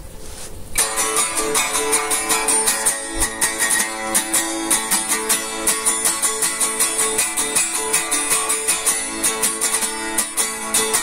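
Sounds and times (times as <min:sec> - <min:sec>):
guitar strummed quickly: 0:00.8 - 0:11.0.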